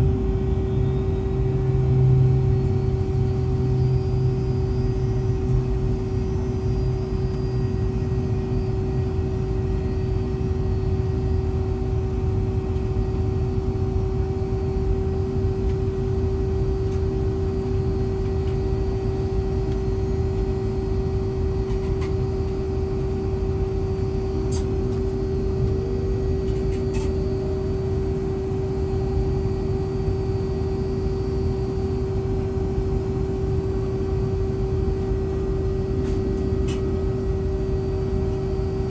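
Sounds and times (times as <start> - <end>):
aircraft cabin hum and rumble: 0.0 - 38.9
constant whine: 0.0 - 38.9.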